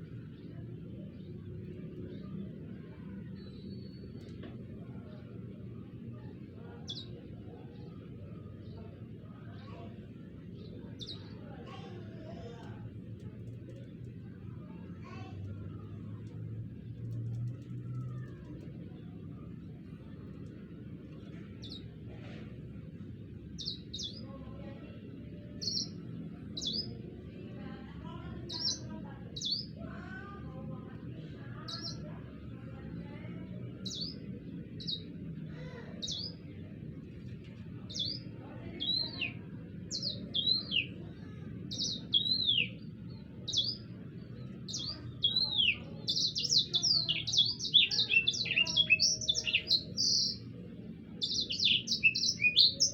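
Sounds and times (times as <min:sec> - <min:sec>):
songbird chirping: 0:00.0 - 0:52.9.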